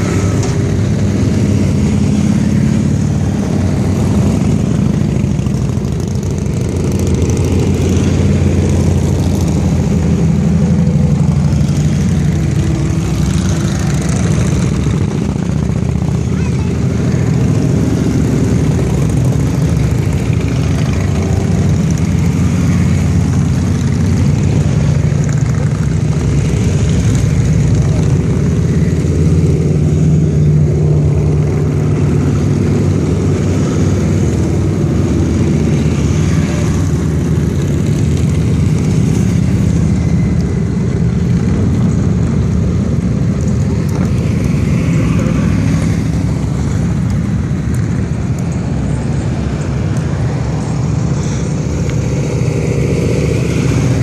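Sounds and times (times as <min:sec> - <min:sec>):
motorcycles riding past: 0:00.0 - 0:54.0.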